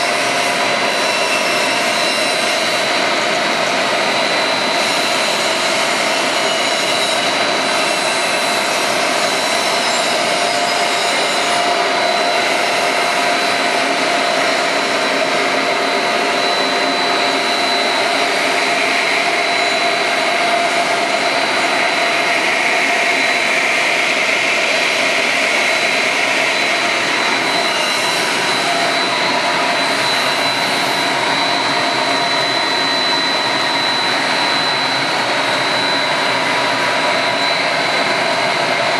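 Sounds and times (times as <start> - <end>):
constant high whine: 0.0 - 38.9
motors and blowers rushing: 0.0 - 38.9.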